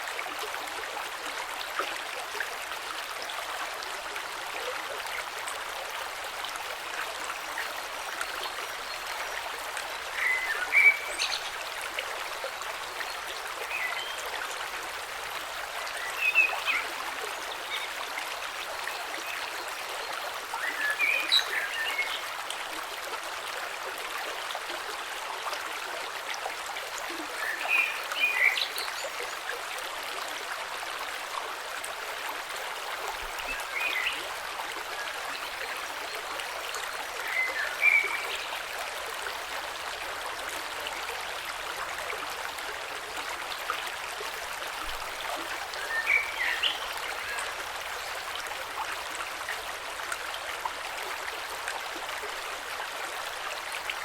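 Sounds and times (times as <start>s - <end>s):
creek water flowing over stones: 0.0s - 54.0s.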